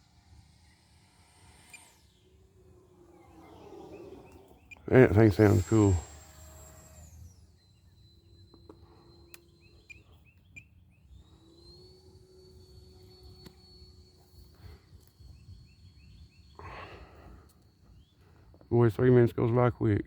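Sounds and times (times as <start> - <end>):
model jet fan whine: 0.0 - 20.0.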